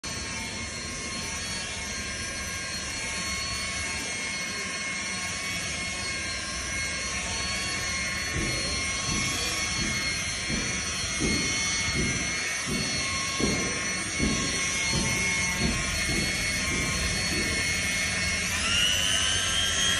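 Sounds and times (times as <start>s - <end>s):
rotary polisher motor whine: 0.0s - 19.9s
polishing pad surging against panel: 0.1s - 19.9s.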